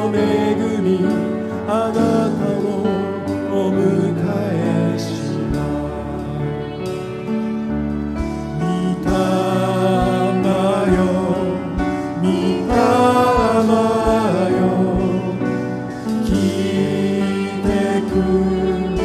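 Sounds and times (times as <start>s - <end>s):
man singing worship song: 0.0s - 7.6s, 8.2s - 19.0s.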